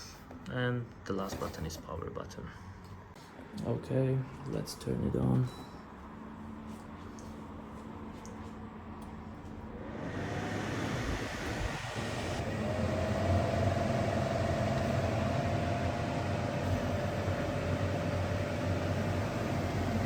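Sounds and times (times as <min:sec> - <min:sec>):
air conditioner fan noise: 0:00.0 - 0:20.0
air conditioner whine and hum: 0:00.0 - 0:20.0.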